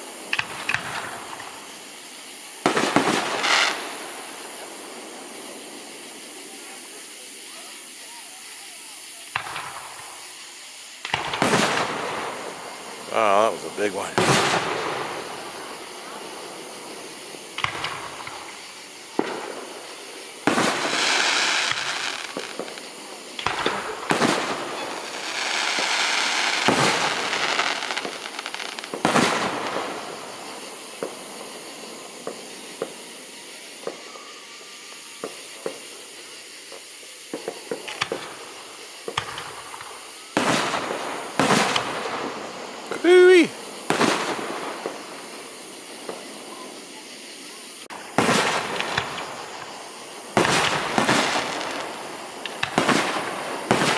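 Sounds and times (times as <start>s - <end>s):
fireworks bangs: 0.0s - 7.3s, 8.7s - 34.1s, 35.2s - 53.9s
fireworks crackling: 0.0s - 53.9s.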